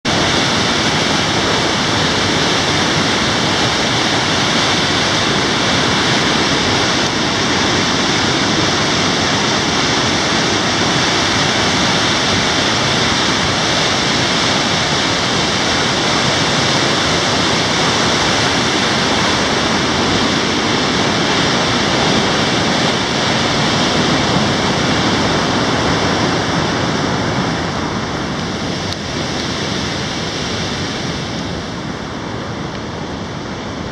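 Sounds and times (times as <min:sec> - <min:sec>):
river rushing through gorge: 0:00.1 - 0:33.9.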